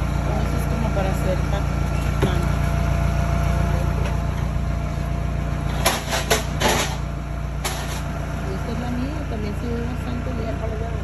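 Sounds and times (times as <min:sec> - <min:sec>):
engine idling drone: 0:00.0 - 0:11.0.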